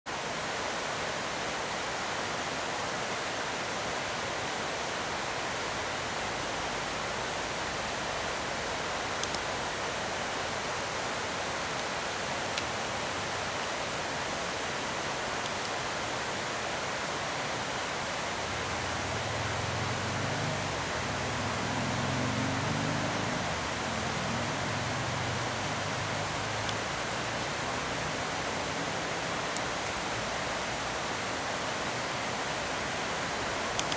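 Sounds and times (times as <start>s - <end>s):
steady rushing noise: 0.1s - 33.9s.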